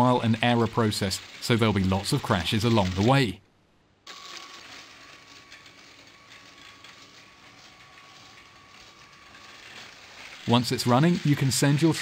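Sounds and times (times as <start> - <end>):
toy train motor whine: 0.0 - 3.2, 4.1 - 12.0
wheels and gears clicking: 0.0 - 3.2, 4.4 - 12.0.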